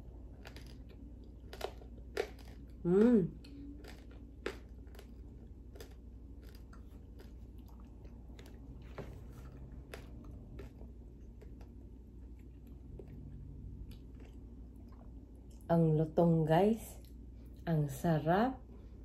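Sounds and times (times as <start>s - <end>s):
person chewing crispy pork: 0.0s - 15.6s.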